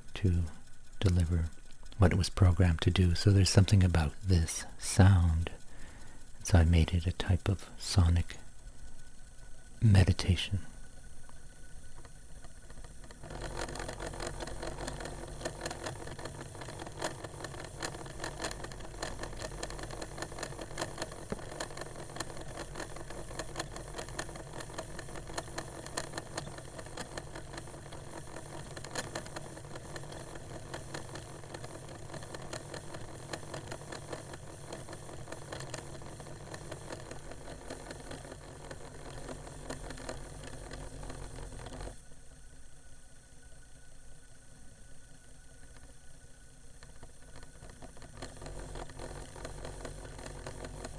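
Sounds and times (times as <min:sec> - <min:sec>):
cd player motor whirring and rattling: 0:00.0 - 0:42.1, 0:44.9 - 0:50.9.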